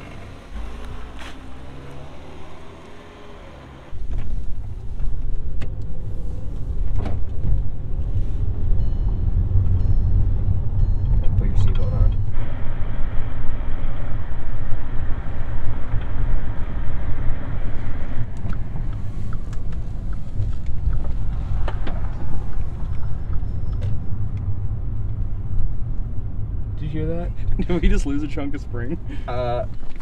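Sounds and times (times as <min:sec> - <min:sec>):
car cabin road rumble: 0:00.0 - 0:30.0.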